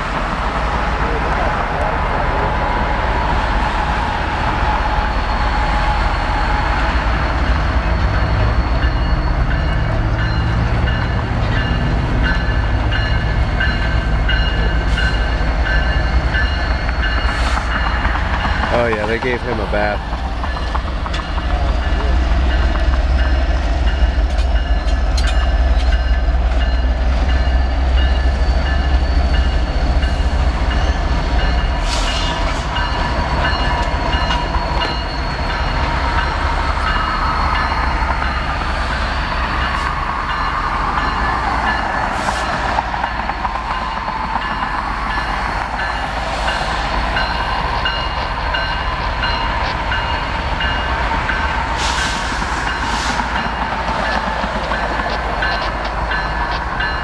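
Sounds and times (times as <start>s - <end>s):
diesel locomotives rumbling: 0.0s - 57.0s
road traffic passing: 0.0s - 57.0s.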